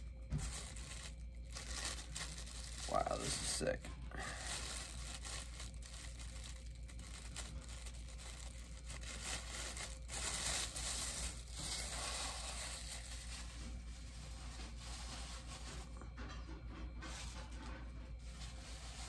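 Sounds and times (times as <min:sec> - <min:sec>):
plastic bag crinkling: 0:00.0 - 0:15.9.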